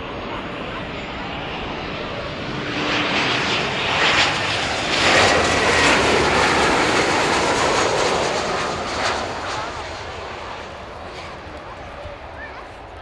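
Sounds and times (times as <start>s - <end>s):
jet airliner flying low overhead: 0.0s - 13.0s.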